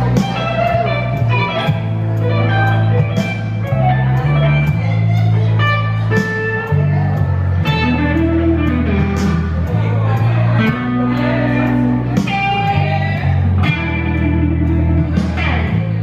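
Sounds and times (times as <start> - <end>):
bass line: 0.0 - 16.0
blues electric guitar: 0.0 - 16.0
steady beat: 0.0 - 16.0.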